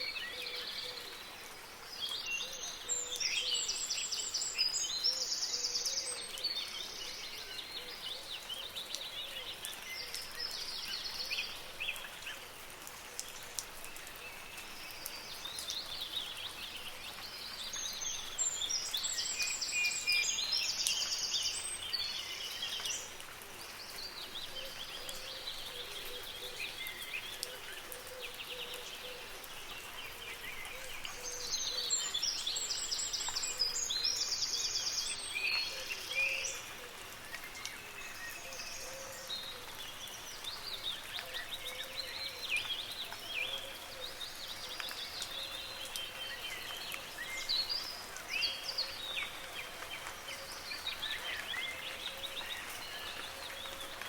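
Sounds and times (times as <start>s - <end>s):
soft rain hiss: 0.0s - 54.0s.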